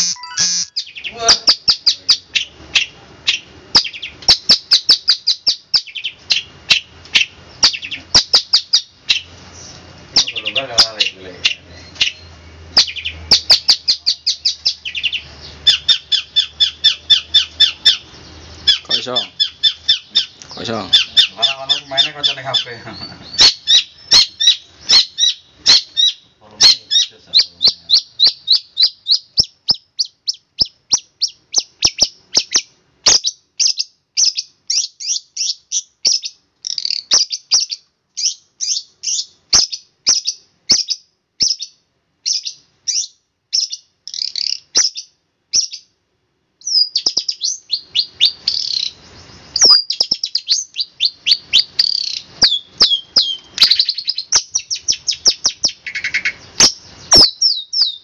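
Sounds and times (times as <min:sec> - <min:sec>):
bird chattering: 0:00.0 - 0:45.9, 0:46.6 - 0:58.0
bird chirping: 0:00.0 - 0:46.0, 0:46.6 - 0:58.0.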